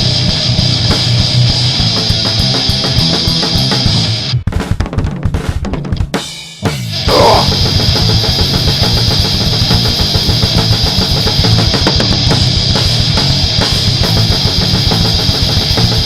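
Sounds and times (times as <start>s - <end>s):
drum hits: 0.0s - 16.0s
heavy metal band playing: 0.0s - 16.0s.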